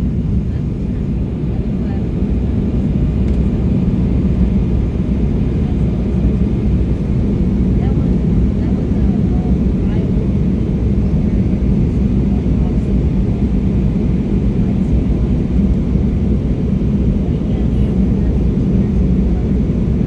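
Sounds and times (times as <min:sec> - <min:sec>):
jet engines droning: 0:00.0 - 0:20.0.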